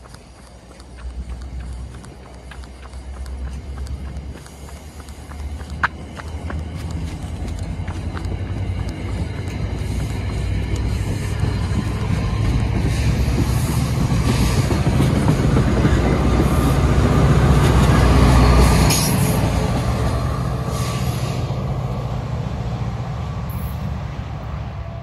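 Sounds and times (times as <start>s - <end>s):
train rolling past on rails: 0.0s - 25.0s.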